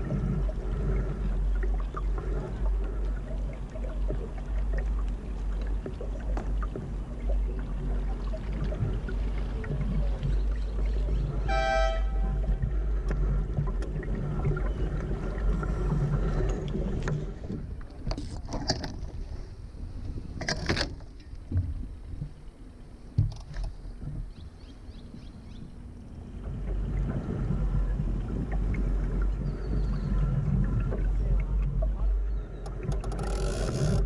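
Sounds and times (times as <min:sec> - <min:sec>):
water washing along a hull: 0:00.0 - 0:34.0
wind rumbling on microphone: 0:00.0 - 0:34.0.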